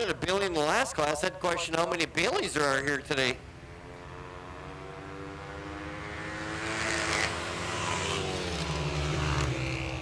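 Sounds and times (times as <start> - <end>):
racing motorcycle engines: 0.0 - 10.0.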